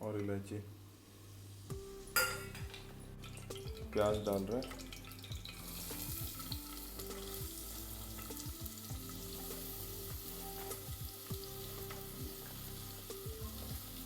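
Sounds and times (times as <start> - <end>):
onions sizzling in oil: 0.8 - 3.5, 4.8 - 14.0.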